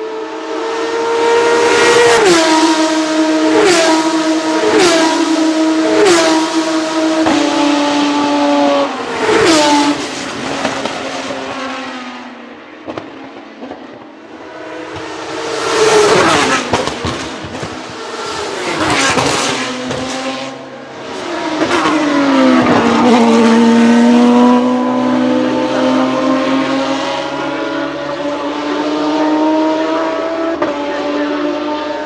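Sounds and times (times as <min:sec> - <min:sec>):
race car engine passing: 0:00.0 - 0:32.0.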